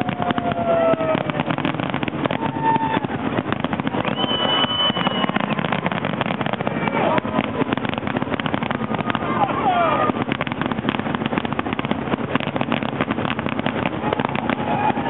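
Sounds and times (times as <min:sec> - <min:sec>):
fireworks bangs and crackles: 0:00.0 - 0:15.0
fireworks whistling: 0:00.0 - 0:15.0.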